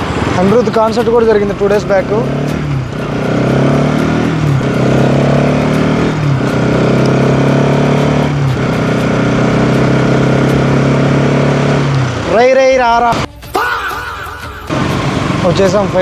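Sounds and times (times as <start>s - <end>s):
motorcycle engine running: 0.0s - 13.3s, 14.6s - 16.0s.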